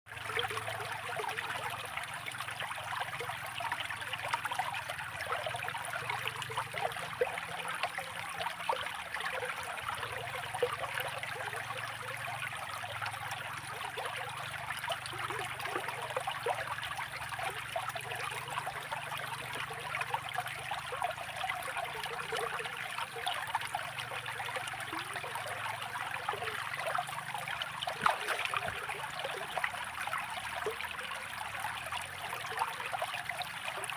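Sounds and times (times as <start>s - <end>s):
stream trickling over stones: 0.1s - 33.9s.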